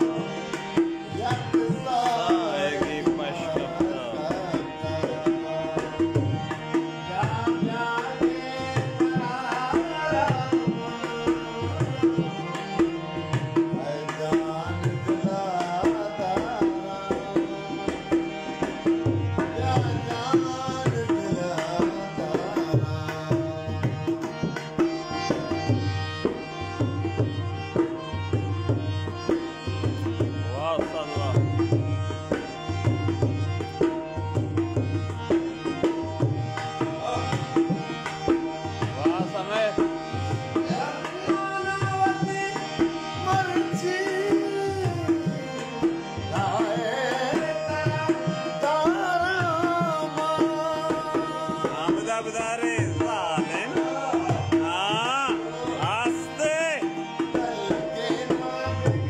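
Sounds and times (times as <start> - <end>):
harmonium melody: 0.0 - 59.0
tabla rhythm: 0.0 - 59.0.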